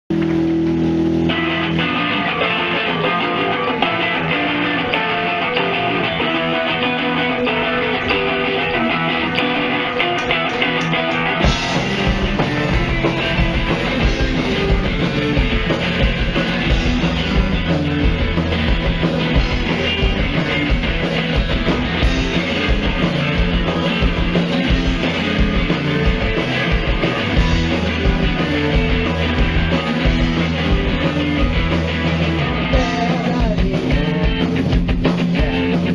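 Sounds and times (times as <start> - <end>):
guitar: 0.0 - 35.9
rock band playing live: 0.1 - 35.9.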